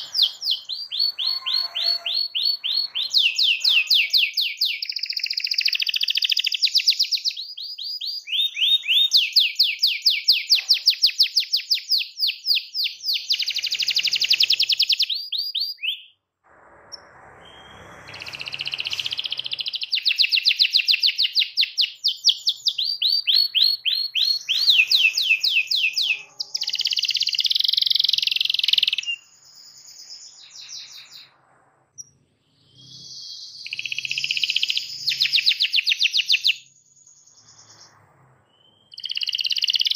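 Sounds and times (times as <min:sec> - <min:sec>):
canary singing trills: 0:00.0 - 0:16.2, 0:17.0 - 0:31.4, 0:32.0 - 0:39.9.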